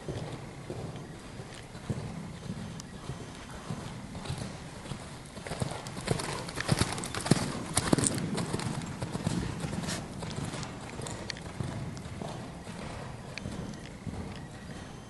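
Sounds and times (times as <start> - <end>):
horse hoofbeats on sand: 0.0 - 15.0.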